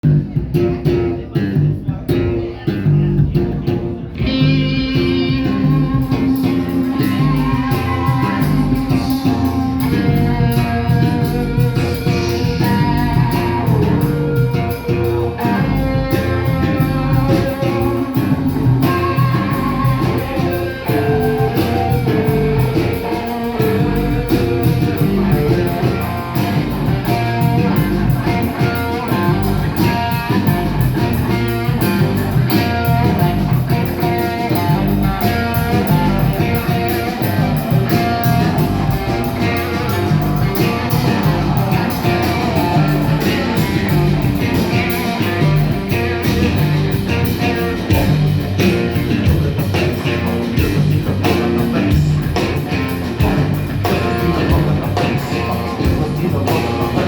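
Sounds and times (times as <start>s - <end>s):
bass guitar: 0.0s - 57.0s
drums: 0.0s - 57.0s
electric guitar: 0.0s - 57.0s.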